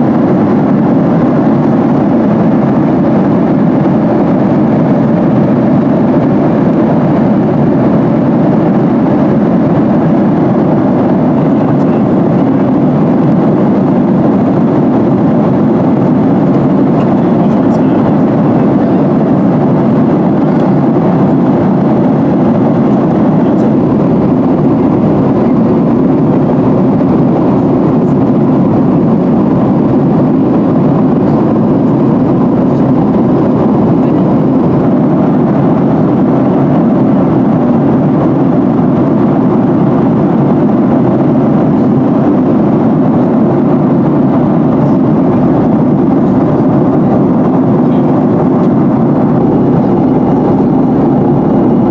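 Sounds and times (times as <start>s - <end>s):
airflow rush in cabin: 0.0s - 51.9s
jet engines droning: 0.0s - 51.9s.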